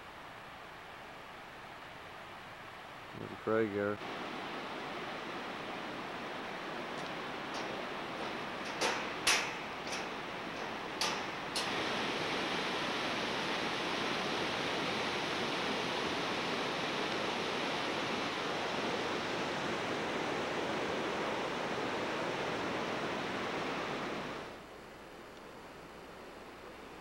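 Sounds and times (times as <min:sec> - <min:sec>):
river rushing: 0:00.0 - 0:24.7.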